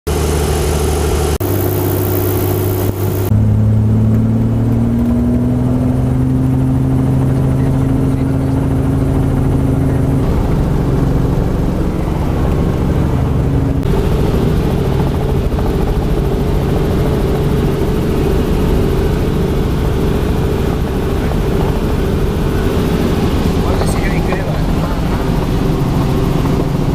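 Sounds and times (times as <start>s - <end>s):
helicopter engine and rotor drone: 0.1s - 26.9s.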